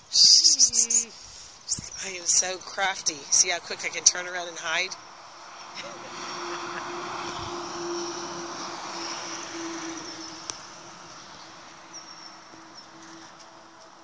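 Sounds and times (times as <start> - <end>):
engine hum: 1.9 - 14.0.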